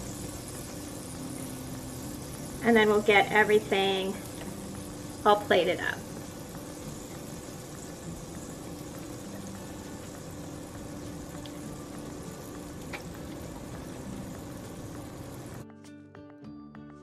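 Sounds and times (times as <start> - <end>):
burgers sizzling in a frying pan: 0.0 - 15.6.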